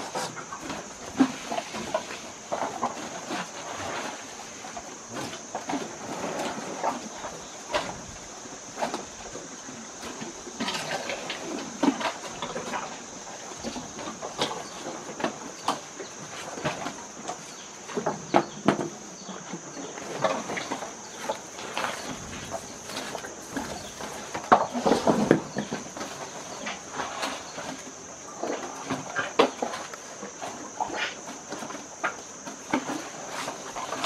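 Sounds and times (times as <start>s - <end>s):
elephants rummaging and crunching sugarcane: 0.0s - 34.0s
steady high-pitched hiss: 0.0s - 34.0s.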